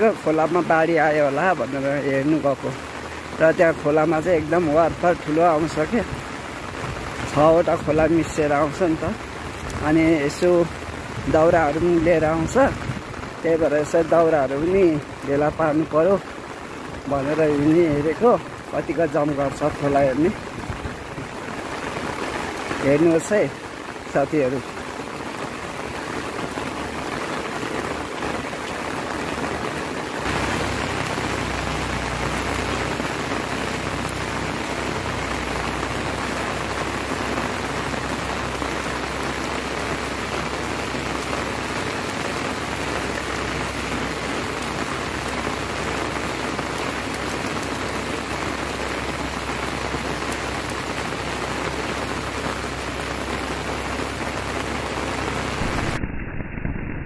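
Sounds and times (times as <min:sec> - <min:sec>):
steady rain falling: 0:00.0 - 0:56.4.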